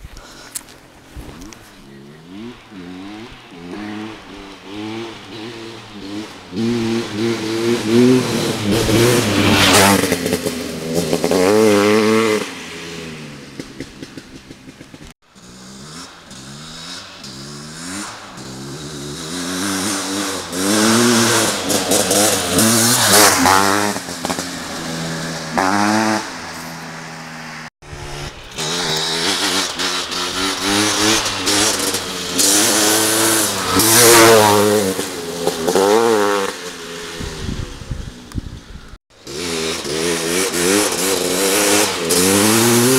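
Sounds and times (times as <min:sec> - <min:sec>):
two-stroke motorcycle engine revving: 0:01.4 - 0:42.9.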